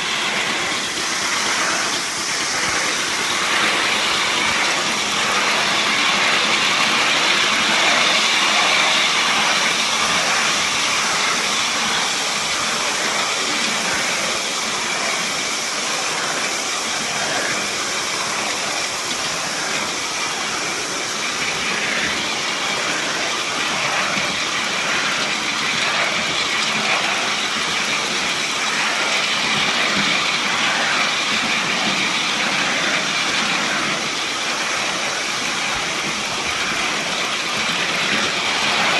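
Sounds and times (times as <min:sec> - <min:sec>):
steam hissing: 0:00.0 - 0:38.9
steam locomotive chuffing: 0:00.0 - 0:38.9.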